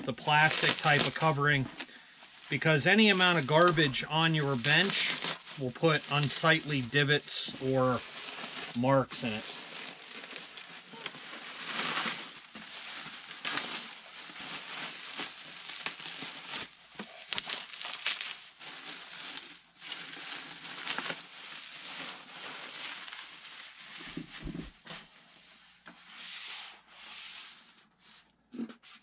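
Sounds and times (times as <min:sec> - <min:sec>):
bubble wrap crinkling: 0:00.0 - 0:25.1.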